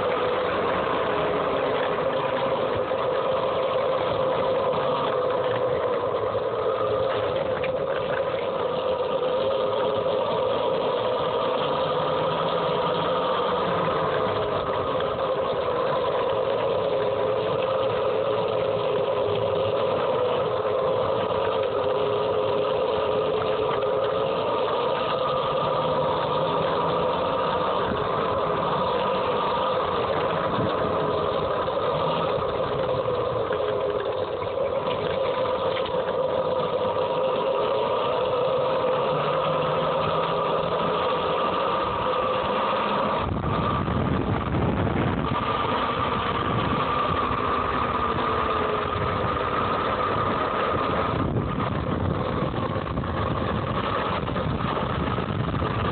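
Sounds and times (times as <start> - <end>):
electric motor whine: 0.0 - 55.9.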